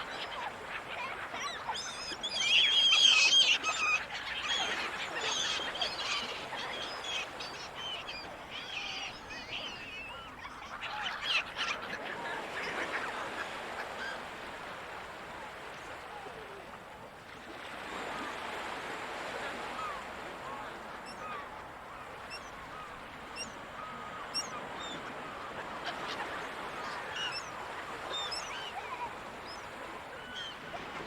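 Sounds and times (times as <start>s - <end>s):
gulls calling: 0.0s - 14.6s, 19.3s - 31.0s.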